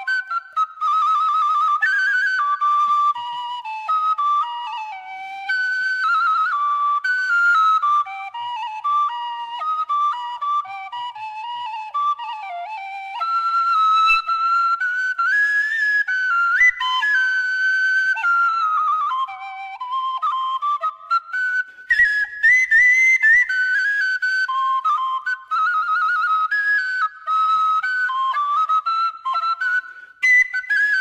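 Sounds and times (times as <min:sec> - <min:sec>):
bamboo flute melody: 0:00.0 - 0:31.0.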